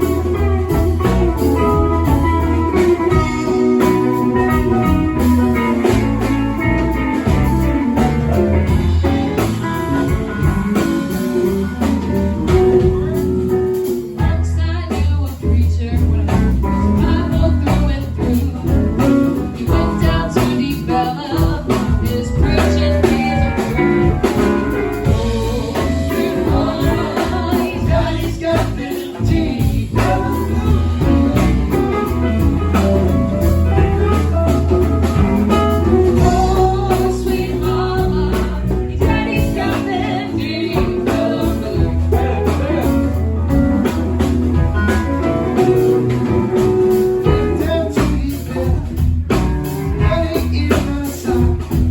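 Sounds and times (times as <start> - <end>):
bass line: 0.0 - 51.9
guitar: 0.0 - 51.9
live band playing: 0.0 - 51.9
person singing: 0.0 - 51.9.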